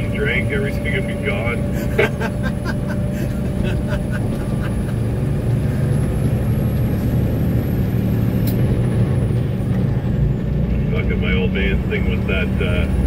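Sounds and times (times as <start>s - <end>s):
road rumble: 0.0s - 13.0s
truck engine droning: 0.0s - 13.0s.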